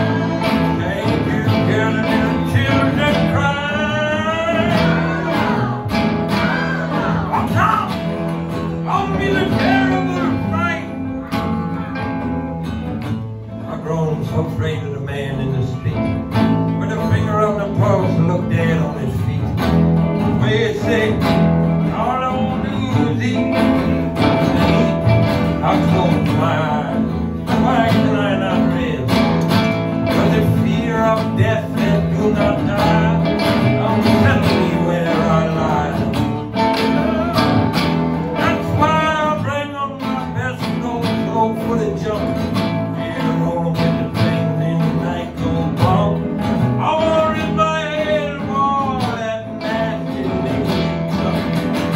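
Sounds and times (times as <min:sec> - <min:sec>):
guitar band playing live: 0:00.0 - 0:51.9.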